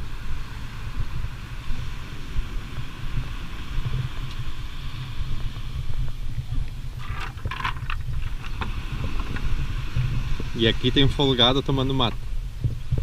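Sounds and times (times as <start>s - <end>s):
sea breeze hiss: 0.0s - 13.0s
small surf: 0.0s - 13.0s
wind buffeting microphone: 0.0s - 13.0s.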